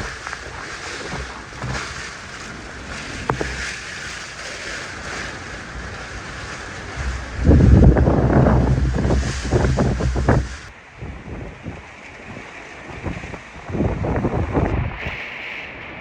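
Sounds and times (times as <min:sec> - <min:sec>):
hurricane wind buffeting microphone: 0:00.0 - 0:16.0.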